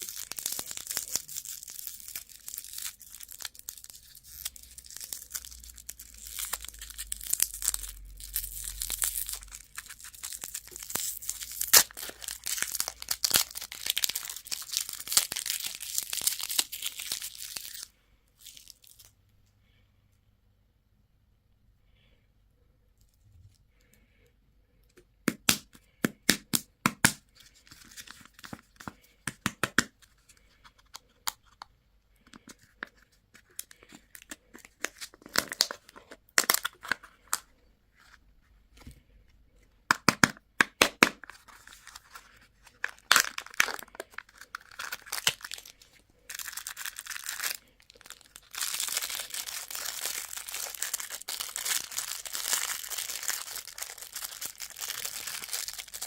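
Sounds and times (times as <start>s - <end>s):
candy wrapper crinkling: 0.0s - 19.2s, 25.3s - 38.2s, 39.9s - 56.0s.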